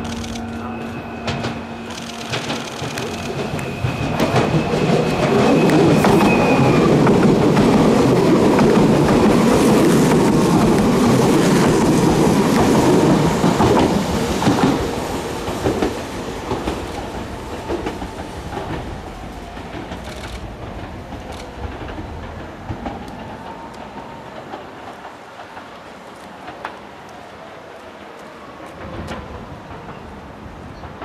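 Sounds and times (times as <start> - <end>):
train passing rumble: 0.0 - 31.0.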